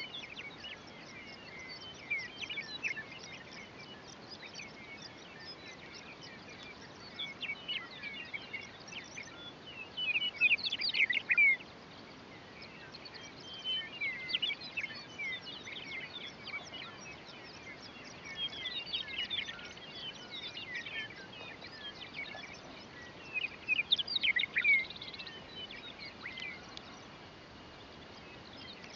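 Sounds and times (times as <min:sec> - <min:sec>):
faint background hiss: 0:00.0 - 0:28.9
meadowlarks singing: 0:00.0 - 0:28.9.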